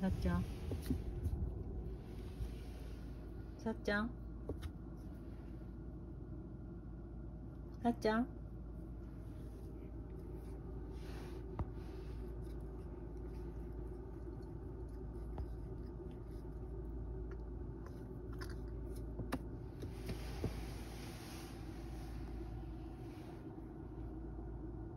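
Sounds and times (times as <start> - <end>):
low room hum: 0.0 - 24.9.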